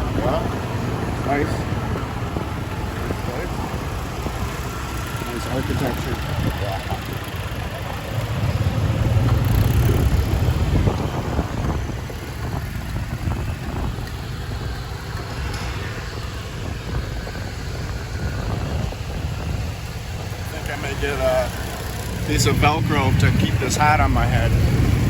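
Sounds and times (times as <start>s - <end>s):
motorbike running: 0.0s - 25.0s
wind rumbling on microphone: 0.0s - 25.0s.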